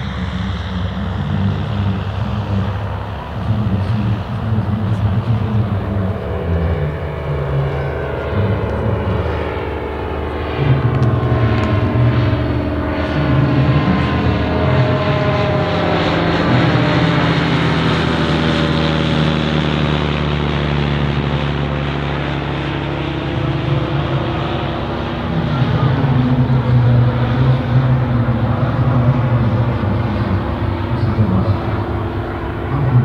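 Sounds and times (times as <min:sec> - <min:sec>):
propeller aircraft engines droning: 0:00.0 - 0:33.0.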